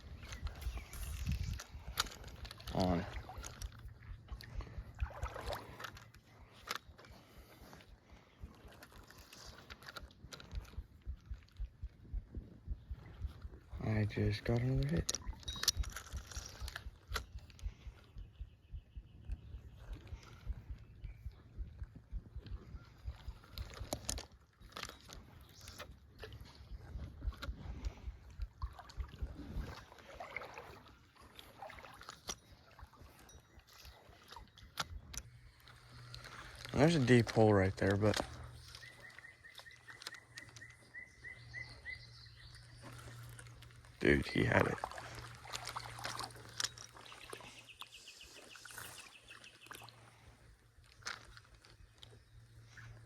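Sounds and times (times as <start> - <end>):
water splashing around wading legs: 0.0 - 13.8, 22.7 - 53.0.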